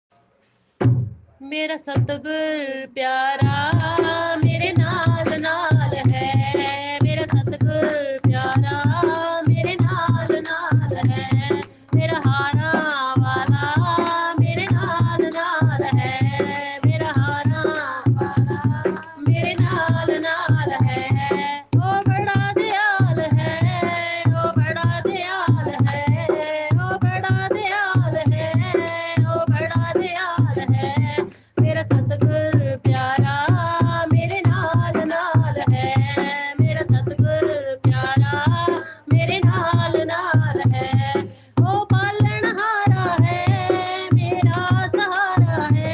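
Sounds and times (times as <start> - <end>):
steady drum beat: 0.8 - 1.3, 3.4 - 45.9
person singing devotional song: 1.4 - 45.9.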